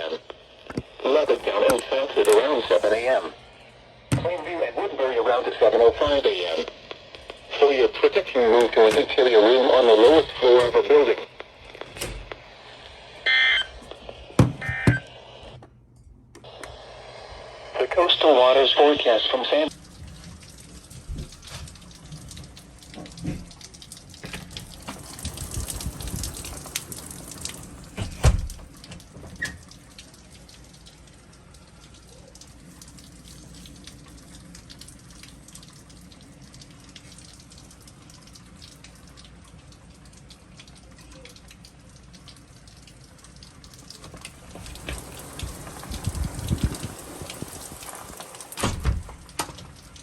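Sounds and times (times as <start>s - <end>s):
rain falling: 0.0s - 14.3s, 17.7s - 50.0s.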